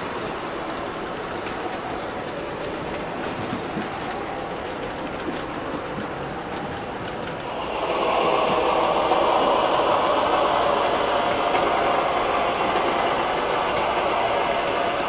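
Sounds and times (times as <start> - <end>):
model train wheels rolling on track: 0.0 - 15.0.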